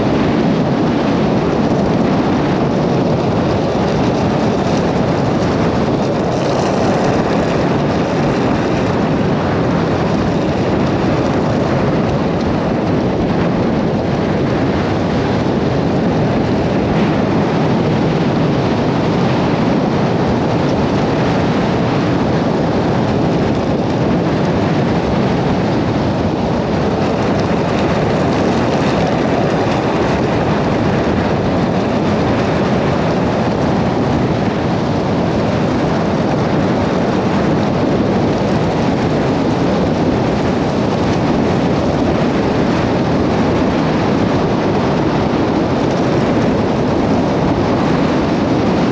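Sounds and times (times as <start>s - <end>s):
strong wind buffeting microphone: 0.0s - 48.9s.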